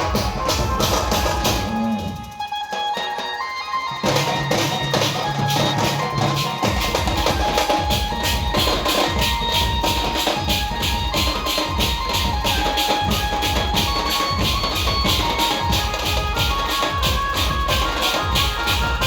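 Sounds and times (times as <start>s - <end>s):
band melody of held notes: 0.0s - 19.0s
fast drum and percussion beat: 0.0s - 19.0s.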